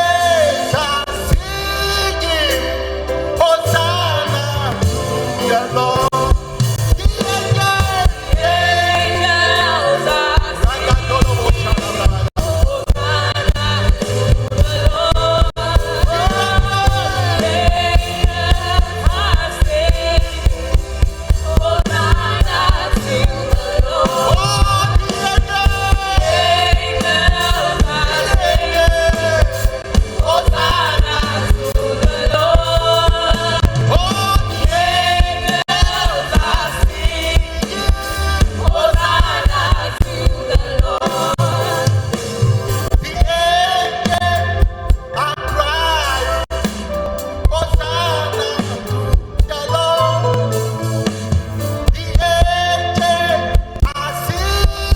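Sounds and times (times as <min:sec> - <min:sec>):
band with heavy bass and drums: 0:00.0 - 0:54.9
gospel singing: 0:00.0 - 0:54.9.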